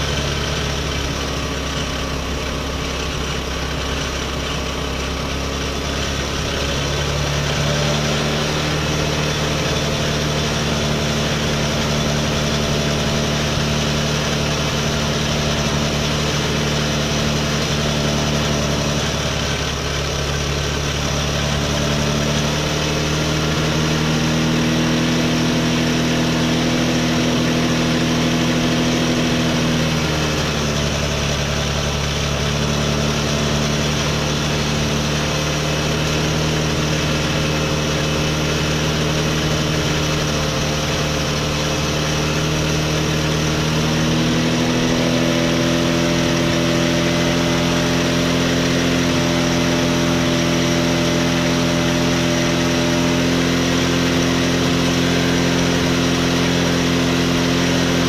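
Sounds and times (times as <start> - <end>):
small engine idling: 0.0 - 58.0.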